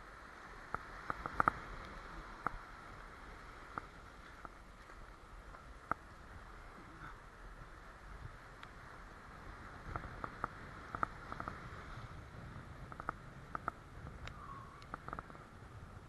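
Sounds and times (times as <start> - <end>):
rumble of surf: 0.0 - 16.0
wind: 0.0 - 16.0.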